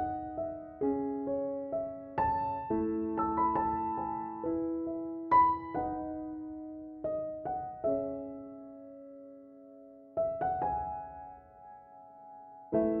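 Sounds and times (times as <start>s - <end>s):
slow gentle piano: 0.0s - 13.0s.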